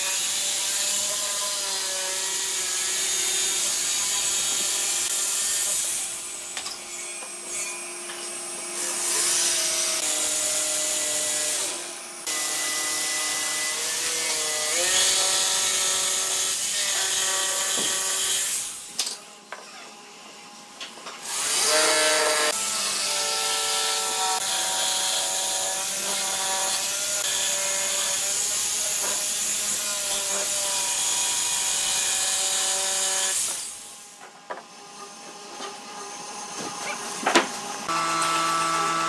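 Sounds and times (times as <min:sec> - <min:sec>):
jigsaw cutting wood: 0:00.0 - 0:06.6, 0:07.3 - 0:18.8, 0:21.2 - 0:33.8, 0:34.9 - 0:39.0.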